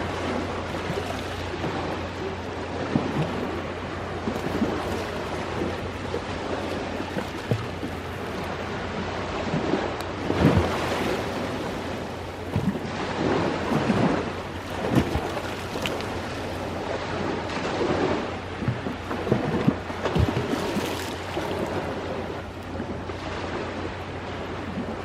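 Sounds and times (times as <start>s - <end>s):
ocean waves washing ashore: 0.0s - 25.0s.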